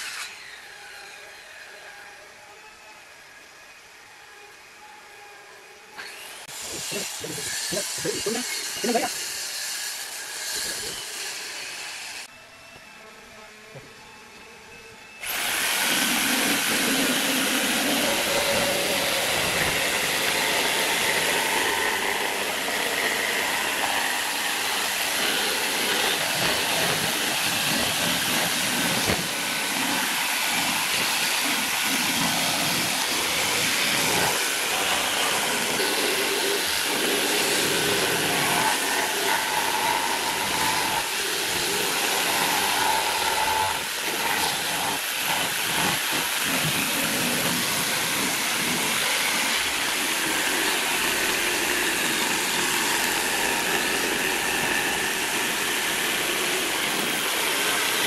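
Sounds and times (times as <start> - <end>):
electric jigsaw sawing plywood: 0.0 - 1.8, 6.0 - 12.3, 15.2 - 58.0.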